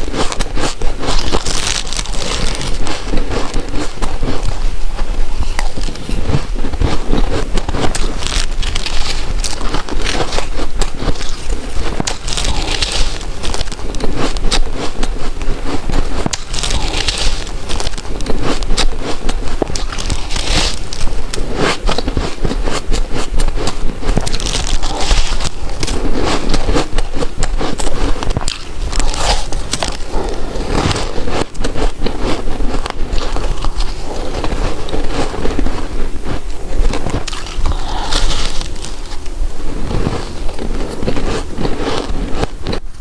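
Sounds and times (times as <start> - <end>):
chewing crunchy ice: 0.0 - 43.0.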